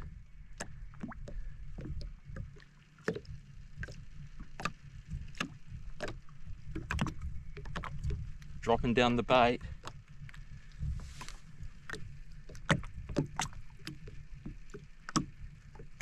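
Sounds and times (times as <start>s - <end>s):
low rumble of water and wind: 0.0s - 16.0s.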